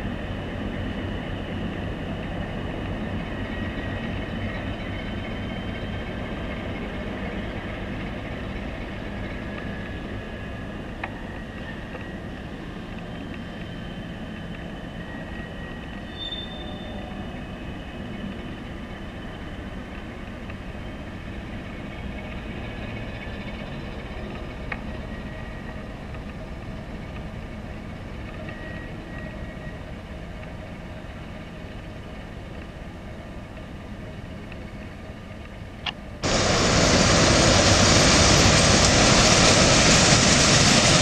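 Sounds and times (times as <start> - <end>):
diesel locomotive running: 0.0 - 41.0.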